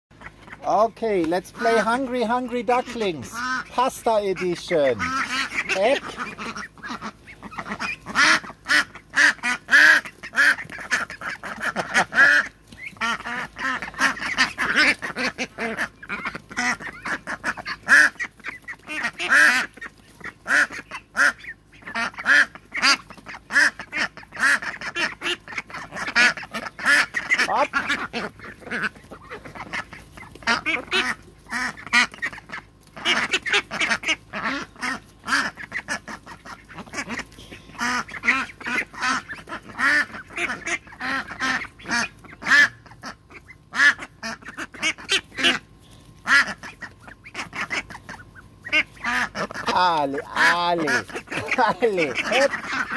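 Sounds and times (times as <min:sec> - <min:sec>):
ducks quacking: 0:00.1 - 0:52.9.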